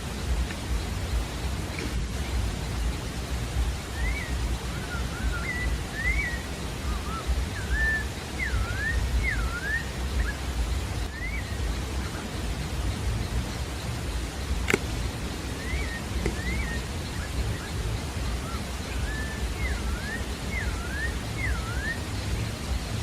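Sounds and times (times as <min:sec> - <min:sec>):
bird singing whistled notes: 0:00.0 - 0:23.0
low background rumble: 0:00.0 - 0:23.0.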